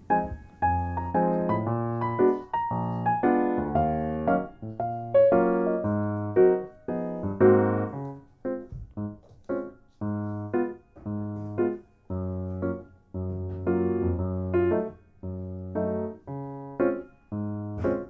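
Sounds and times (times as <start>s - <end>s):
electric piano tune: 0.0s - 18.0s.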